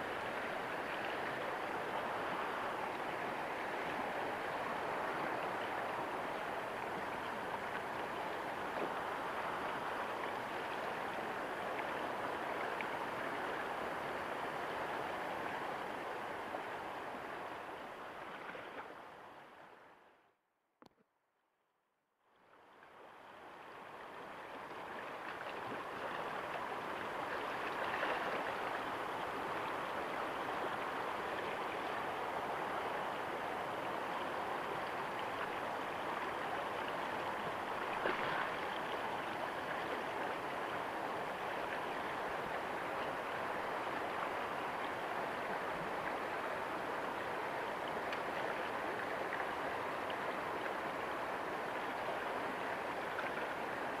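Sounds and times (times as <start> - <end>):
river current rushing: 0.0 - 19.7, 23.0 - 54.0.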